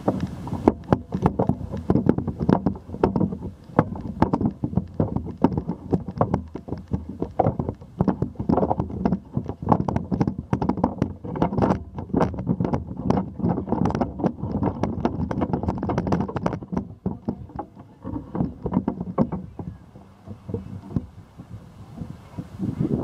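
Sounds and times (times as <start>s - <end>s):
camera pole handling knocks and rubbing: 0.0s - 23.0s.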